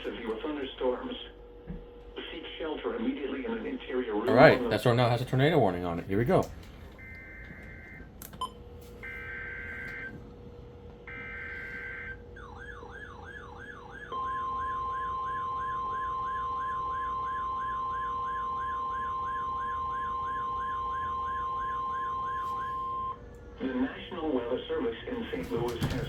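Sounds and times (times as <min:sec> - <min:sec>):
steady warning alarm tone: 0:04.3 - 0:26.0.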